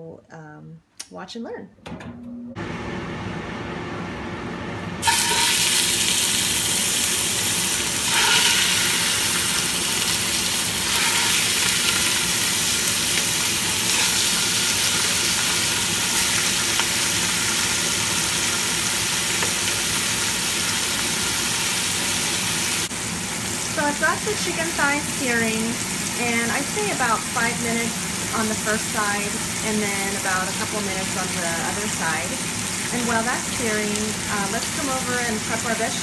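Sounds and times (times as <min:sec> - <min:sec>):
range hood fan humming: 0:01.8 - 0:36.0
chicken sizzling in hot oil: 0:05.0 - 0:36.0.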